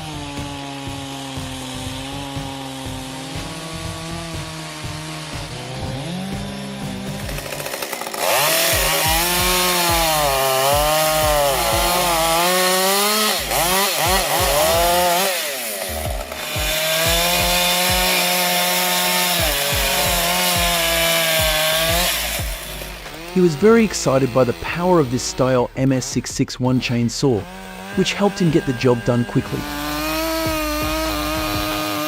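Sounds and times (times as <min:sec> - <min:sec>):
chainsaw cutting wood: 0:00.0 - 0:32.0.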